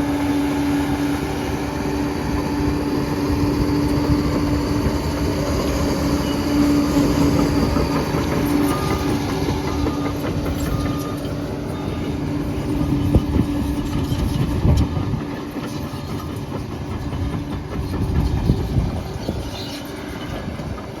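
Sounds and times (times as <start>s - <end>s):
crawler bulldozer running: 0.0s - 21.0s
steel tracks clanking: 0.0s - 21.0s.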